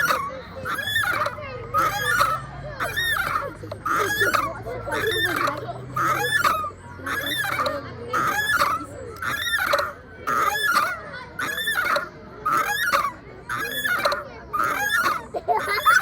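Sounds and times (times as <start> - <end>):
chain swing creaking: 0.0 - 16.0.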